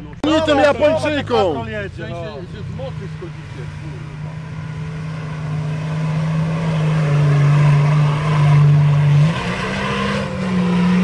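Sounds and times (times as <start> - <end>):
engine revving hard: 2.0 - 11.0.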